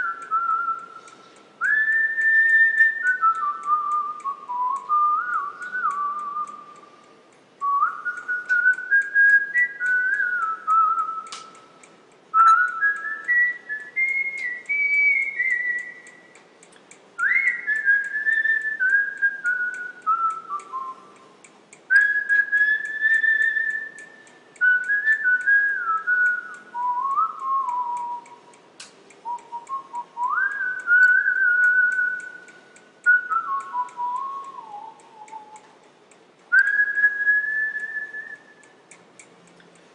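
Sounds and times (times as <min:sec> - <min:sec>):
person whistling a tune: 0:00.0 - 0:07.0, 0:07.6 - 0:11.7, 0:12.3 - 0:16.3, 0:17.2 - 0:21.3, 0:21.9 - 0:28.5, 0:29.2 - 0:35.8, 0:36.5 - 0:38.8.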